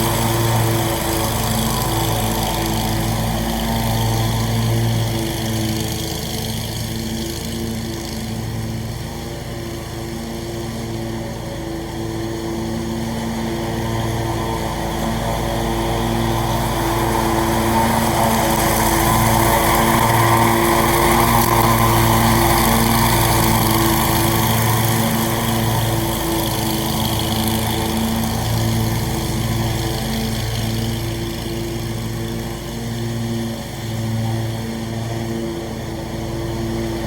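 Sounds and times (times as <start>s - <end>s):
mower engine running: 0.0s - 37.0s.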